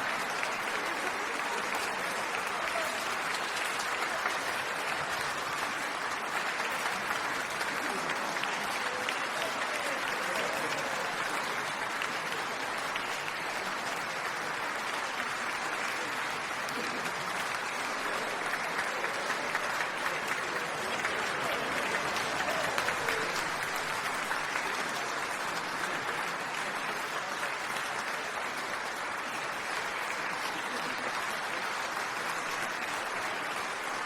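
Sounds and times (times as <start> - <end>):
crowd applause: 0.0 - 34.0.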